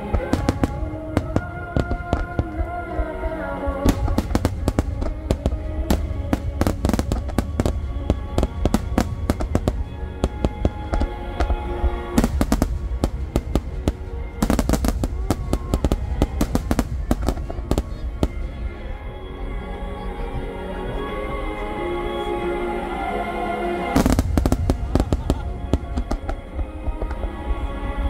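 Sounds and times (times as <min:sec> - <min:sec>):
music playing: 0:00.0 - 0:28.0.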